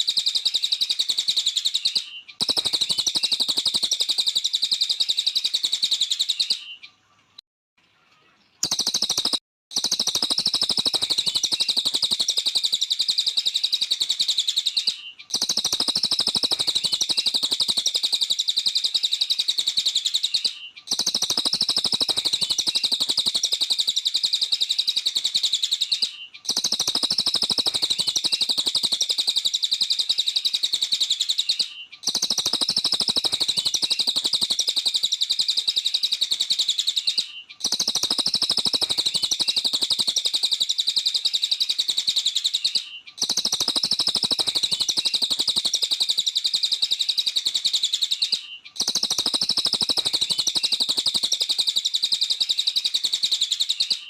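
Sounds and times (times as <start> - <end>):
songbird twittering: 0.0 - 7.2, 8.2 - 54.0.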